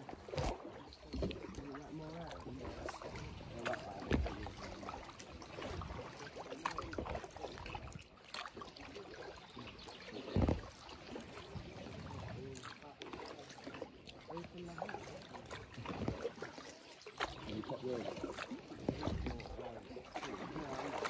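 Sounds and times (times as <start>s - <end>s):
paddle splashing water: 0.0s - 21.0s.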